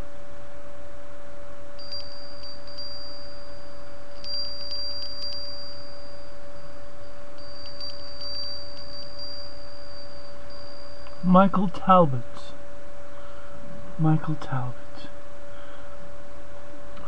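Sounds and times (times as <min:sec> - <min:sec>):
low hum: 0:00.0 - 0:17.0
high-pitched whine: 0:01.6 - 0:15.4.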